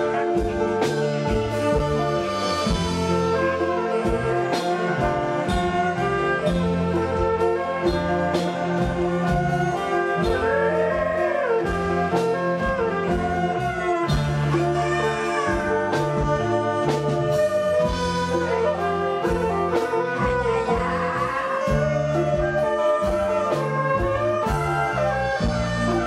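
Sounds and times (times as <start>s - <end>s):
drum beat: 0.0s - 26.0s
held melody notes: 0.0s - 26.0s.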